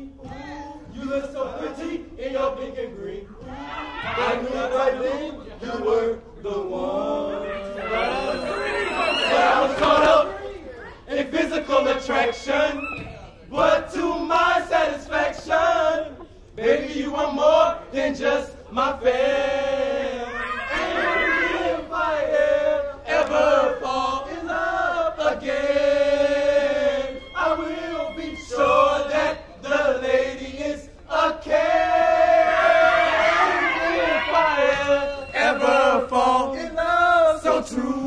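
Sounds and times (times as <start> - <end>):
young men chanting in unison: 0.0 - 10.4, 11.1 - 38.0.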